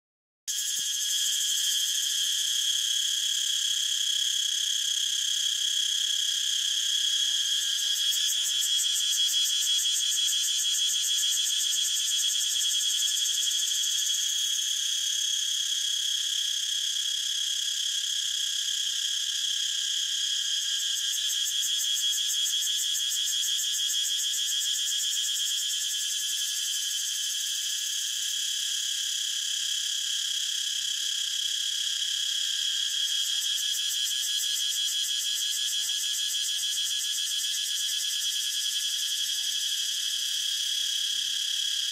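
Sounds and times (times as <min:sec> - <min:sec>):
cicada buzzing: 0:00.5 - 0:41.9.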